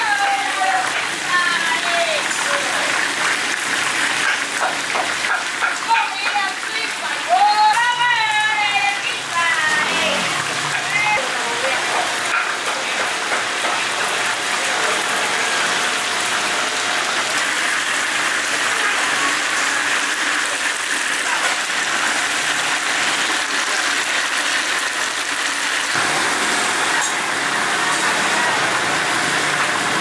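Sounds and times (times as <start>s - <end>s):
food deep-frying in oil: 0.0s - 30.0s.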